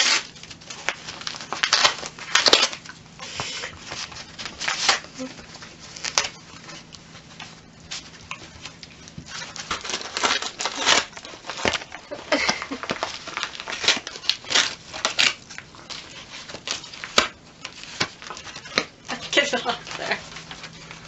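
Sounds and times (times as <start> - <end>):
dog tearing paper: 0.0 - 21.0.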